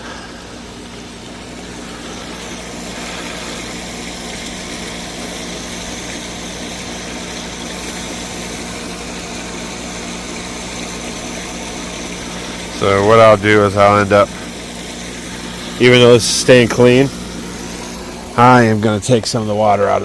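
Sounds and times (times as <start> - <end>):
pool pump motor hum: 0.0 - 20.0
water flowing: 0.0 - 20.0.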